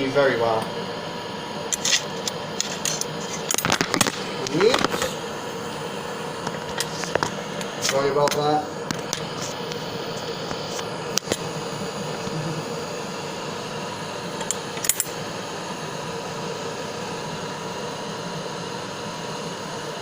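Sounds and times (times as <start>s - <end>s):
blowtorch flame hissing: 0.0s - 20.0s.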